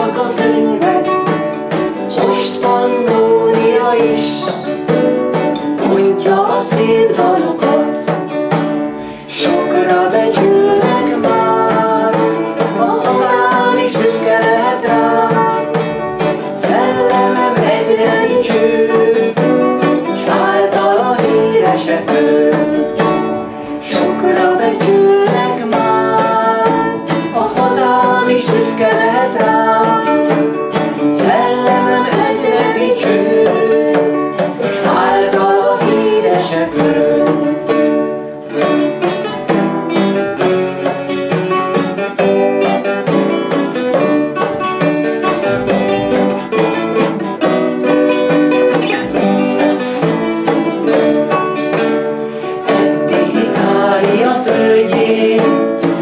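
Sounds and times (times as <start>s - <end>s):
frame drum struck by hand: 0.0s - 56.0s
plucked lute and guitar: 0.0s - 56.0s.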